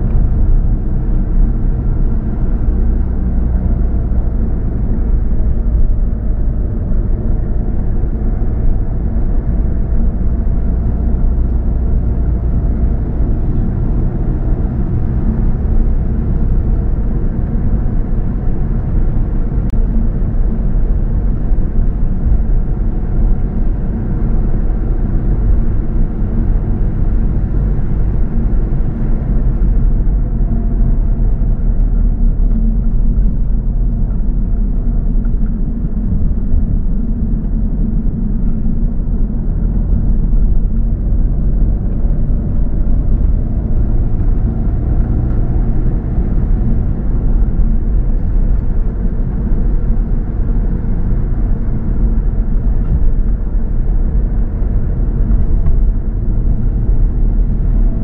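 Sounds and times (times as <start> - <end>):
car driving road rumble: 0.0 - 58.0.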